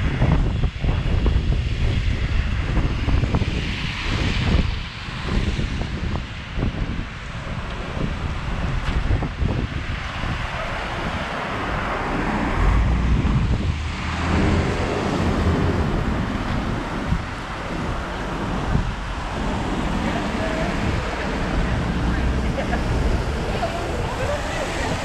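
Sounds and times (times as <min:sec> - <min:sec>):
low rumble: 0:00.0 - 0:25.0
wind buffeting microphone: 0:00.0 - 0:25.0
tyres hissing on wet road: 0:00.1 - 0:25.0.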